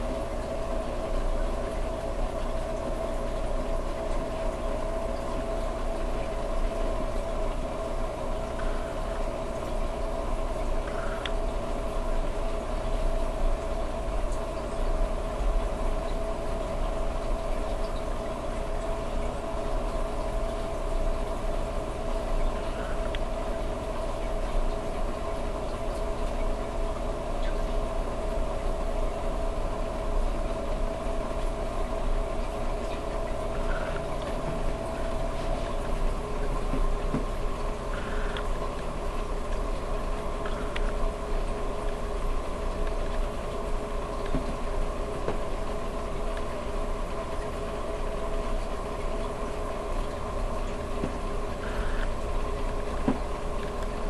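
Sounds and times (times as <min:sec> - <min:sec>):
circulating water wash: 0:00.0 - 0:54.0
pump hum: 0:00.0 - 0:54.0.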